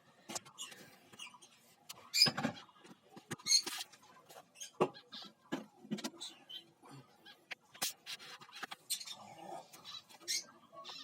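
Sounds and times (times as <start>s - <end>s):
lovebirds chirping and squeaking: 0.2s - 11.0s.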